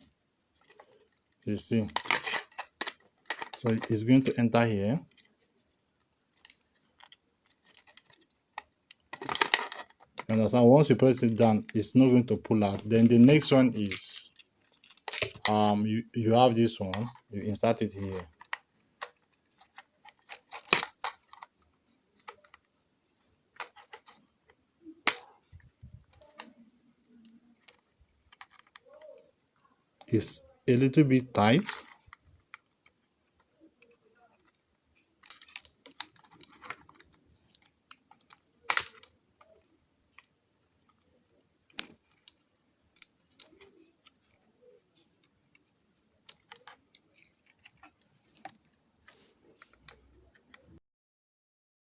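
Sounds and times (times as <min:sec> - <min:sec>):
plastic parts clicking: 0:00.6 - 0:05.4, 0:06.0 - 0:22.7, 0:23.5 - 0:29.4, 0:30.0 - 0:50.8.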